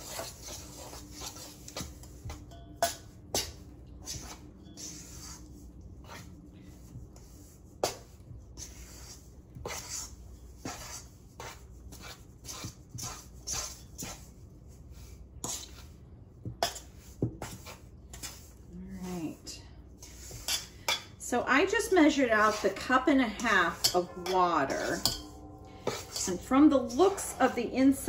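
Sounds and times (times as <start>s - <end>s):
utensil scraping metal bowl: 0.0s - 6.4s, 7.2s - 14.3s, 16.6s - 28.0s.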